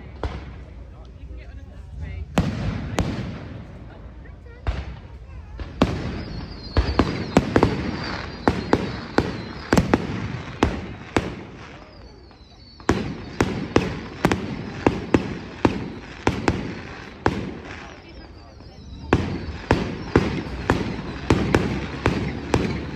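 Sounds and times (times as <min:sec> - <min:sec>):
fireworks bangs: 0:00.0 - 0:22.9
fireworks crackling: 0:00.0 - 0:22.9.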